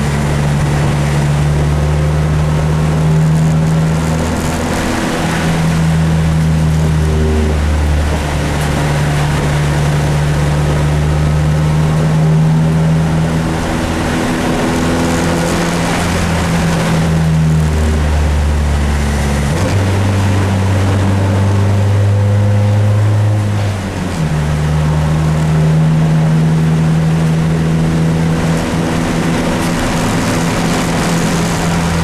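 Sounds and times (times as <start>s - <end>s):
race car engine from inside: 0.0s - 32.0s.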